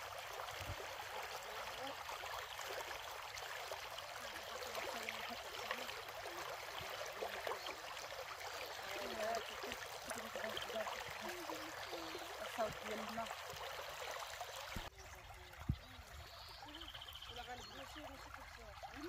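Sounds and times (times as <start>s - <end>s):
stream trickling and gurgling: 0.0s - 19.0s.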